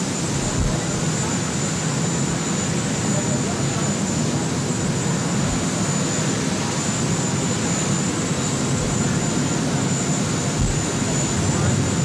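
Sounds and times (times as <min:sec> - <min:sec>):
helicopter rotor rumble: 0:00.0 - 0:12.0
helicopter turbine whine: 0:00.0 - 0:12.0.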